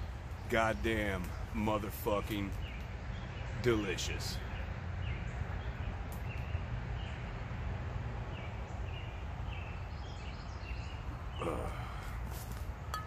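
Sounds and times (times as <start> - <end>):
bird chirping: 0.0 - 7.6, 8.2 - 12.1.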